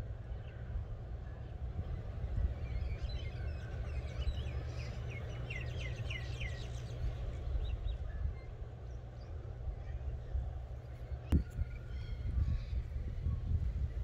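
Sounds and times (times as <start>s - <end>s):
constant low rumble: 0.0s - 14.0s
wild birds calling: 0.2s - 13.2s.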